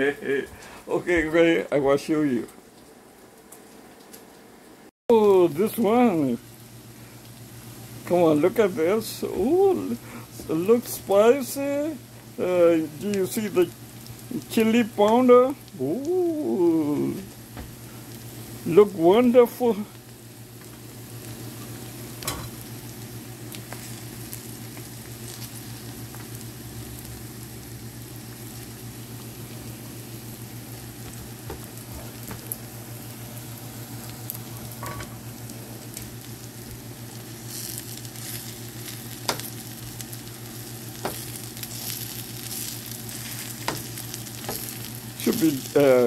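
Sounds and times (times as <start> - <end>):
chicken sizzling in oil: 3.5 - 46.0
steady low hum: 4.4 - 46.0.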